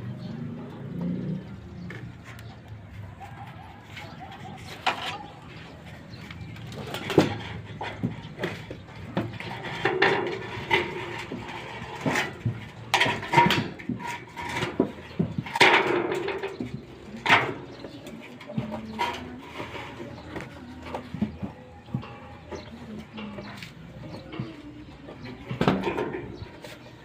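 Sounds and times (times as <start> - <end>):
knocks and clatter: 4.3 - 27.0.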